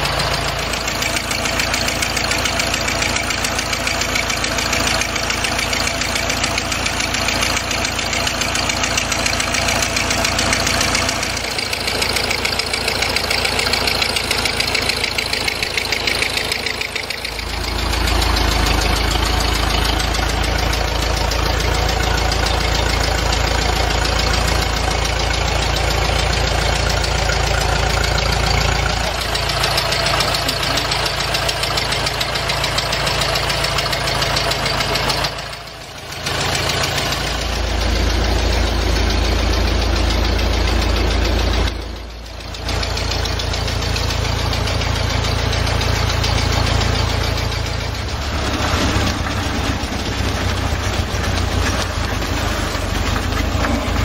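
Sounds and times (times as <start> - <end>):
car engine running: 0.0 - 54.0
deep rumble: 8.2 - 54.0.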